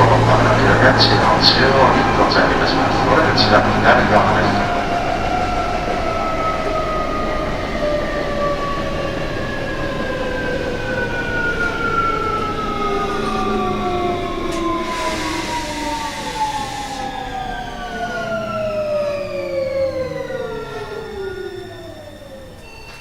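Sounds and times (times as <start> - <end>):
wheels rumbling on track: 0.0 - 23.0.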